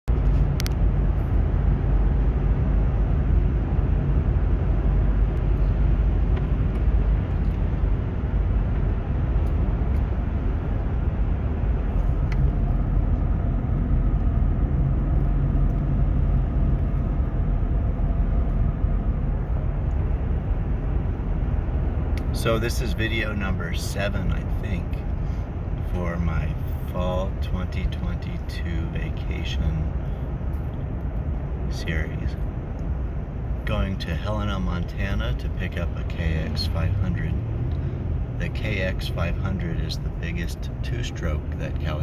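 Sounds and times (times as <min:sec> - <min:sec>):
car road and engine noise: 0:00.0 - 0:42.0.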